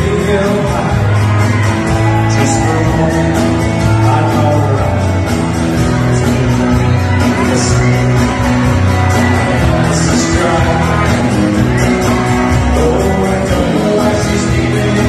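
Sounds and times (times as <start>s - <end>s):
bass guitar: 0.0s - 15.0s
drum kit: 0.0s - 15.0s
electric and acoustic guitars: 0.0s - 15.0s
person singing: 0.0s - 15.0s.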